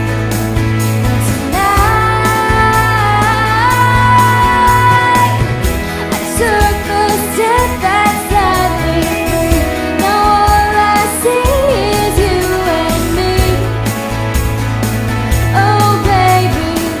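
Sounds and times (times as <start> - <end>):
acoustic guitar: 0.0 - 17.0
woman singing: 1.1 - 13.9, 15.5 - 17.0.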